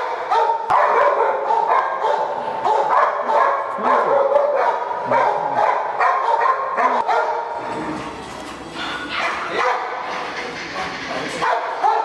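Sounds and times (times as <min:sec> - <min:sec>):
dogs barking: 0:00.0 - 0:07.6, 0:08.8 - 0:10.2, 0:11.3 - 0:12.0.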